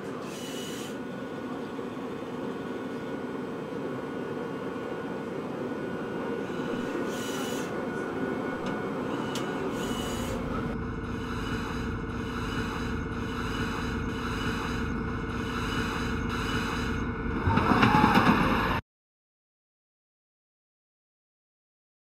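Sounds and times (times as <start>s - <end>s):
steady machine hum: 0.6s - 18.8s.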